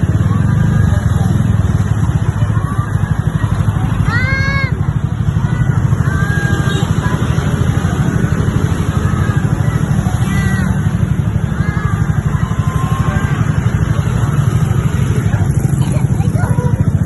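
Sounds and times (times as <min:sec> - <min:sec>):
traffic engine rumble: 0:00.0 - 0:17.0.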